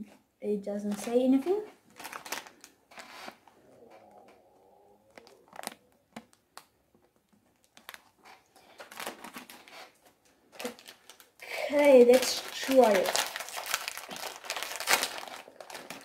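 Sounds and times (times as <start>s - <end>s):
plastic bag crinkling: 0.8s - 4.3s, 5.1s - 16.0s.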